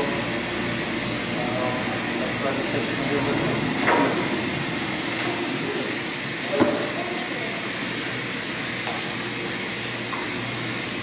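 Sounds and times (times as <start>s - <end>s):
blowing machine hum: 0.0s - 11.0s.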